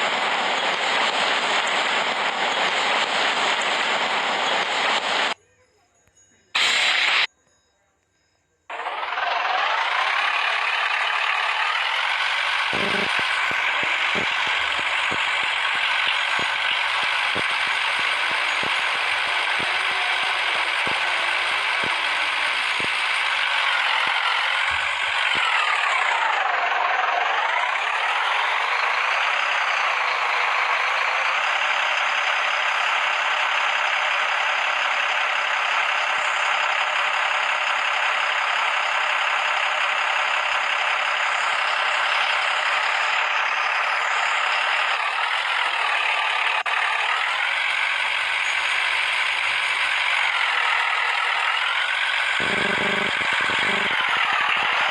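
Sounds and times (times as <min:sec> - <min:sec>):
construction machine engine: 0:00.0 - 0:07.3, 0:08.5 - 0:54.9
high mechanical whine: 0:06.1 - 0:38.5, 0:39.1 - 0:54.9.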